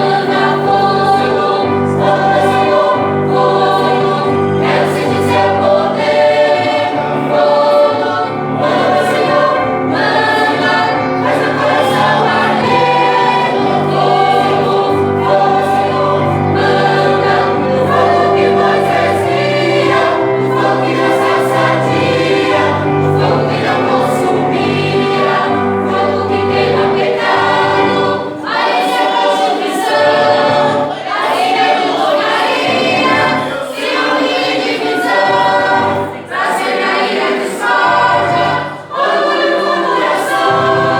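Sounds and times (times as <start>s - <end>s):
choir singing worship song: 0.0s - 40.9s.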